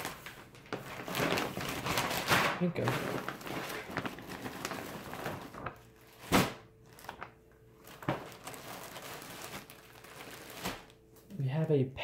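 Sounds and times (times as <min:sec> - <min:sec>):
plastic packaging rustling: 0:00.0 - 0:11.1.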